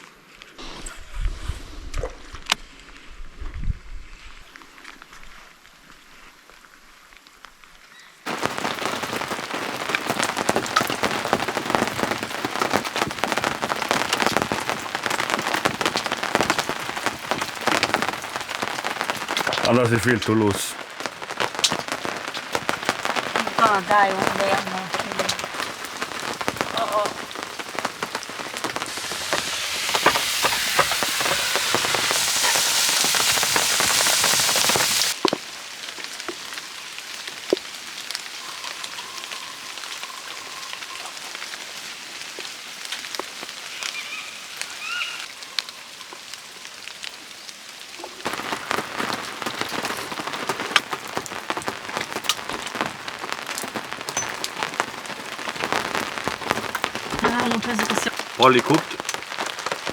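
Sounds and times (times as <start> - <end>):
rain drops pattering: 2.0 - 59.9.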